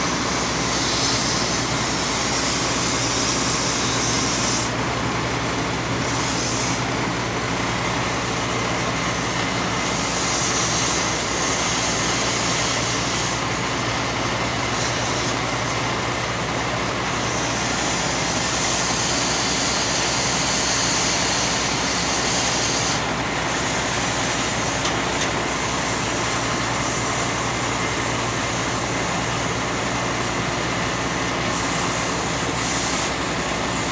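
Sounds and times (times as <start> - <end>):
engine drone: 0.0 - 33.9
welding hiss: 0.0 - 33.9.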